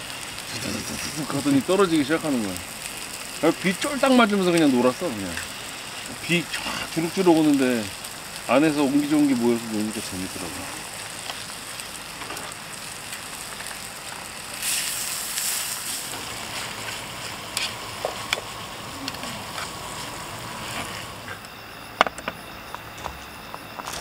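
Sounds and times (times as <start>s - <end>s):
meat sizzling in a pan: 0.0s - 23.0s.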